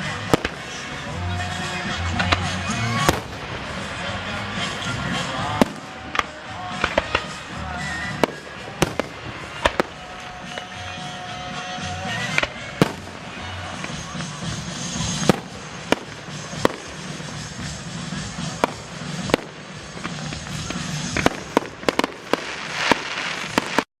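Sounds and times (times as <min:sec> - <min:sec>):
fireworks banging: 0:00.0 - 0:23.9.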